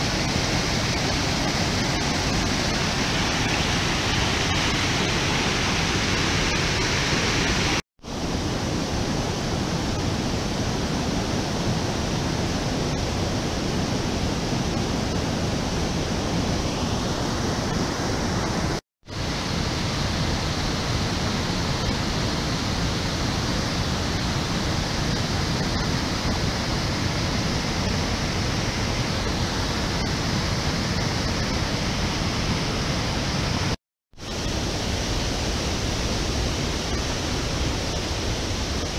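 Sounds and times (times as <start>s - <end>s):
river rushing through rapids: 0.0s - 38.9s.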